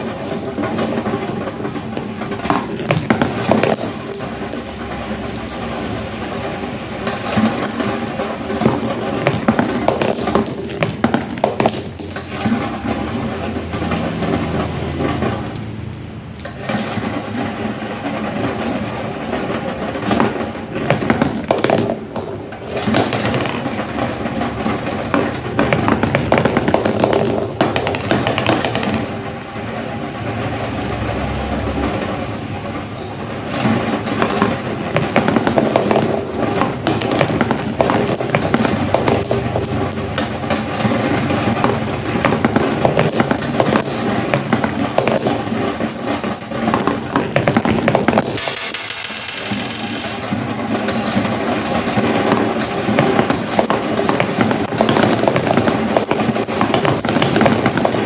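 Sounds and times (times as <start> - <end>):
marbles rolling down a marble run: 0.0 - 32.4, 33.0 - 58.0.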